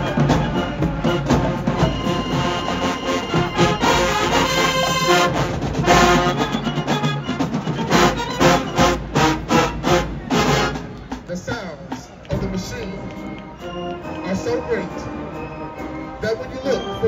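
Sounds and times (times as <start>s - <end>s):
brass section chords: 0.0s - 11.2s, 12.4s - 17.0s
marching band drums: 0.0s - 17.0s.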